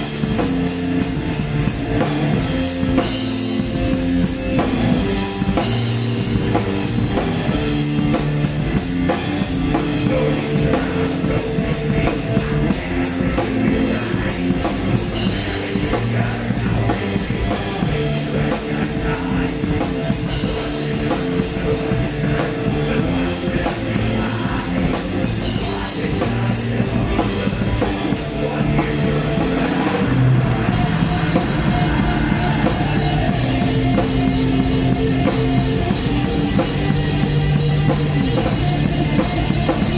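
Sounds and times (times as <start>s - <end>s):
distorted electric guitars: 0.0s - 39.9s
fast drumming with cymbals: 0.0s - 39.9s.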